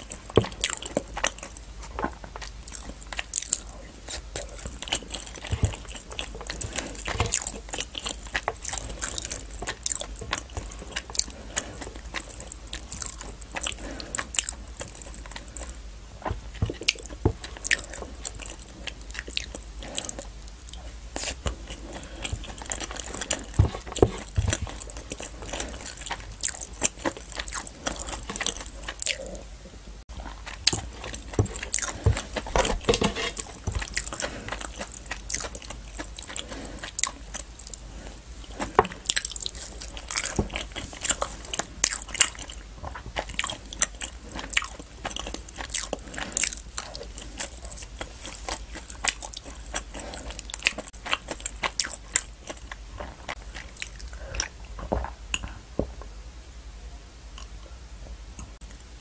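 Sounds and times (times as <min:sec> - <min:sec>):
close chewing and mouth clicks: 0:00.0 - 0:29.4, 0:30.1 - 0:55.6.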